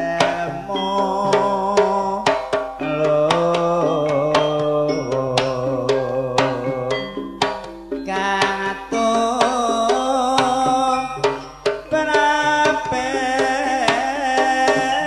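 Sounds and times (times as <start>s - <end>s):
high wavering melodic line: 0.0s - 13.8s
hand drum strokes: 0.0s - 15.0s
metallophone tones: 0.0s - 15.0s.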